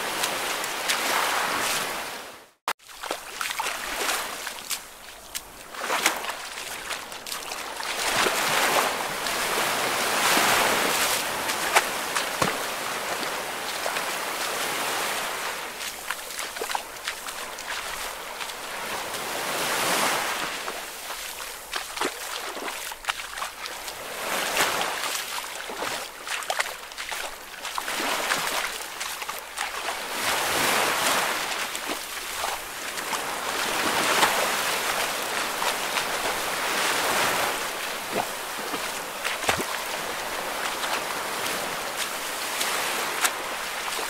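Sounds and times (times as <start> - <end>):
ocean waves washing: 0.0 - 44.0.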